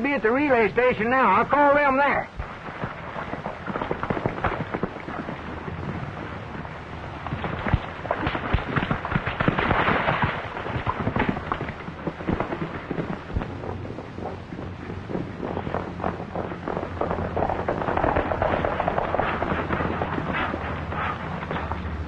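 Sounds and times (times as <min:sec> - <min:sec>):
horse hooves galloping on dirt: 0:02.4 - 0:22.0.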